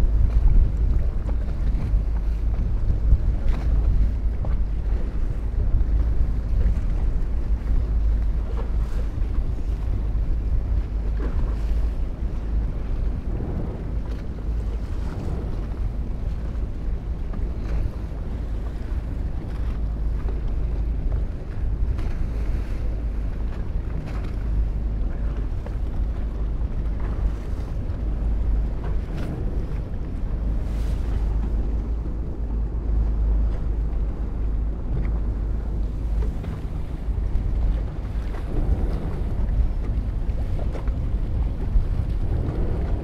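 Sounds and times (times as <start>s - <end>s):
wind rumbling on microphone: 0.0s - 43.0s.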